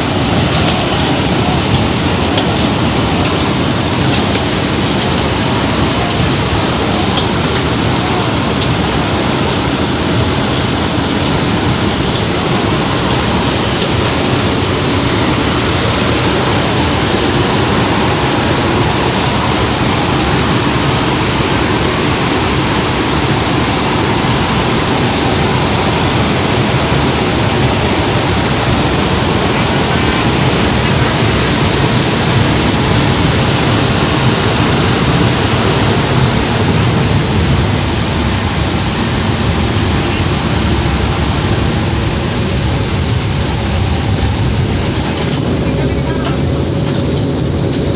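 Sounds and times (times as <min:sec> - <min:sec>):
airflow rush: 0:00.0 - 0:47.9
turboprop engines droning: 0:00.0 - 0:47.9.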